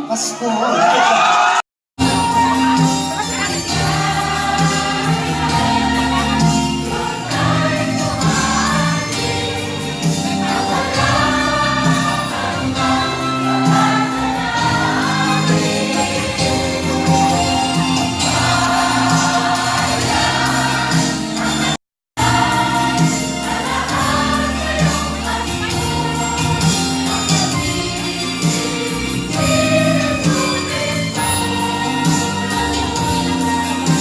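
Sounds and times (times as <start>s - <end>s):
choir singing a carol: 1.2s - 34.0s
instrumental accompaniment: 2.0s - 34.0s.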